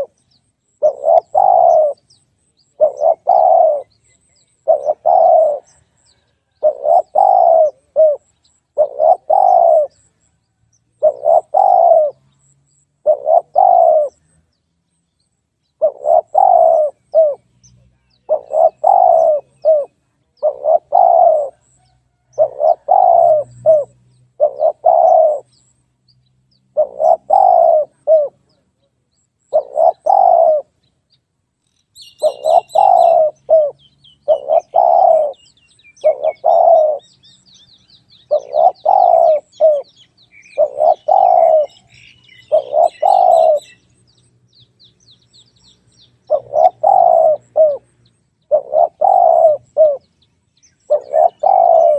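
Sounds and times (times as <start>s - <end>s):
dove cooing: 0.0s - 0.2s, 0.8s - 10.2s, 11.0s - 14.4s, 15.8s - 17.5s, 18.2s - 25.6s, 26.7s - 28.7s, 29.5s - 30.8s, 32.0s - 43.8s, 46.2s - 50.1s, 50.9s - 51.9s
faint high bird chirps: 0.0s - 51.9s.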